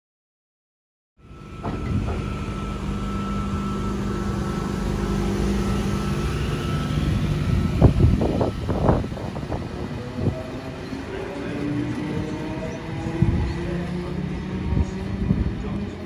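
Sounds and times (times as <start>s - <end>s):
faint rising whine: 1.2s - 15.0s
electric train rumble and hum: 1.2s - 16.0s.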